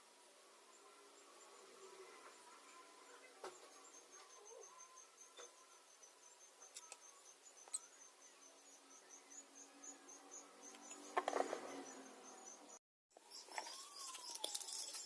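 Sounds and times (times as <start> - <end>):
insect chirping: 0.7 - 15.0.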